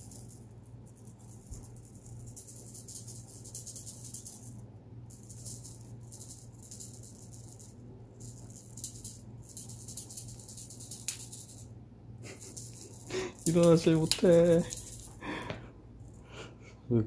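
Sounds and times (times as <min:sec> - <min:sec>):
shaker-like rattling: 0:00.0 - 0:16.4
faint low hum: 0:00.0 - 0:17.0.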